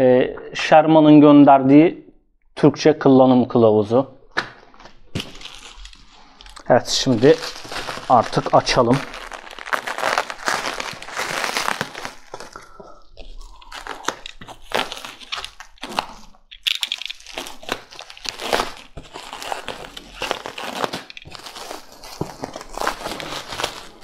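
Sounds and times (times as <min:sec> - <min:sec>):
bubble wrap crinkling: 0:04.7 - 0:24.0.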